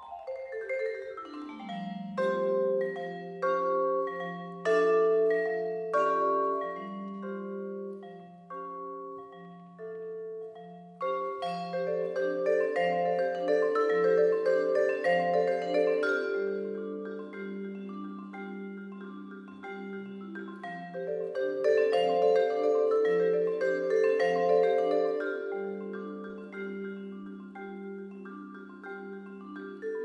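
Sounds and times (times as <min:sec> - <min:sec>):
vibraphone played with mallets: 0:00.0 - 0:30.0.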